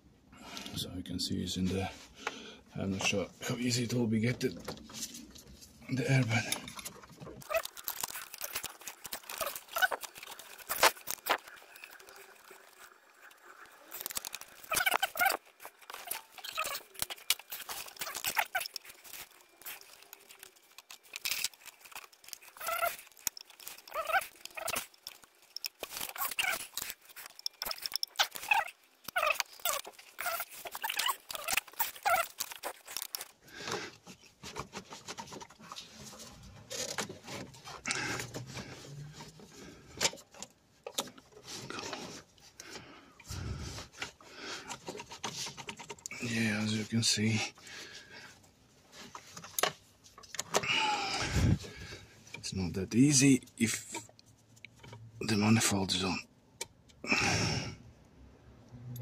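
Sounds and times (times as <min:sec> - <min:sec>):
gloves squeaking on rubber hoses: 0:02.8 - 0:56.3.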